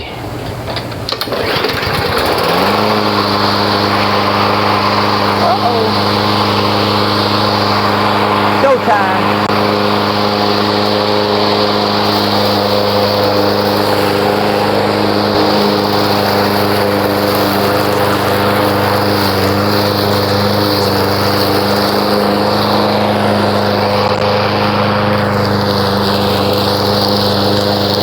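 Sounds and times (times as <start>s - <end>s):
lawn mower engine running: 0.0s - 28.0s.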